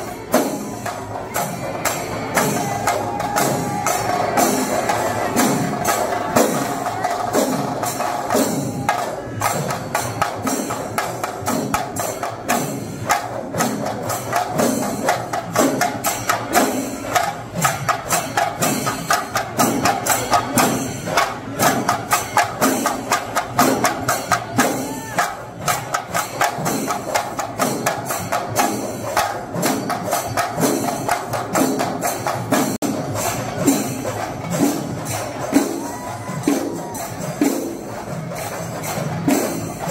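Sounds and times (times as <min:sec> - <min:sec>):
fast drumming: 0:00.0 - 0:39.9
hand cymbals clashing: 0:00.0 - 0:39.9.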